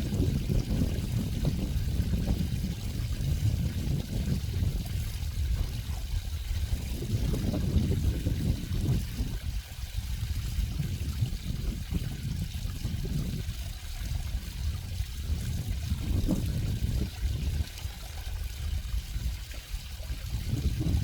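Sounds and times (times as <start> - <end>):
running water: 0.0 - 21.0
water gurgles: 0.0 - 21.0.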